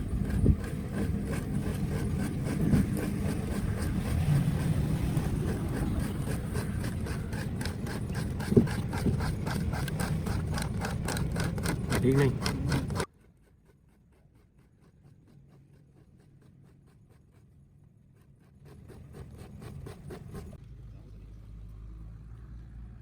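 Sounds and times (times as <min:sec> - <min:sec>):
rasp scraping rubber tube: 0:00.0 - 0:20.6.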